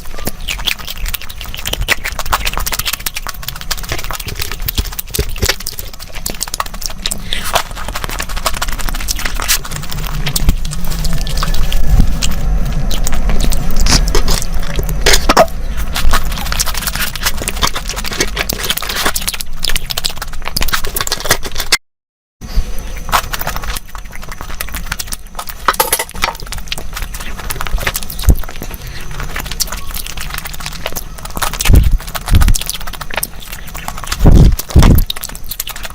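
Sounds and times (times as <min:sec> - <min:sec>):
chewing and mouth noises: 0:00.0 - 0:21.8, 0:22.8 - 0:35.9
crisp crackles and clicks: 0:00.0 - 0:21.8, 0:22.8 - 0:35.9.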